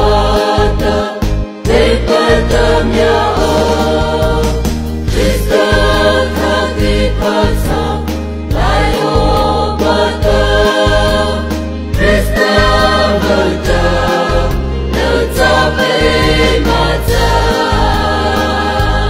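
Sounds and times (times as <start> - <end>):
instrumental backing with bass: 0.0 - 19.0
mixed choir singing gospel: 0.0 - 19.0.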